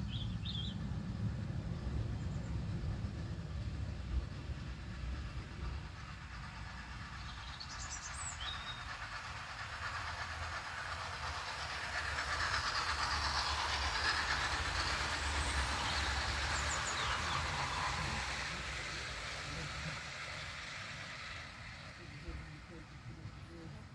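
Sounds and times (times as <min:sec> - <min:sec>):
model train wheels rumbling on track: 0:00.0 - 0:23.9.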